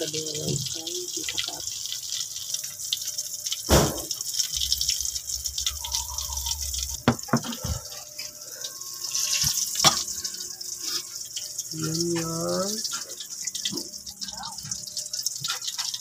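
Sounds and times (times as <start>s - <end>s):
omelette sizzling in oil: 0.0s - 16.0s.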